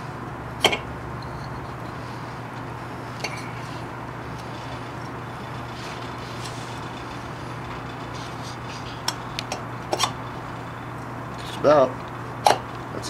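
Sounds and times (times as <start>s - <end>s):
workshop hum and hiss: 0.0s - 13.0s.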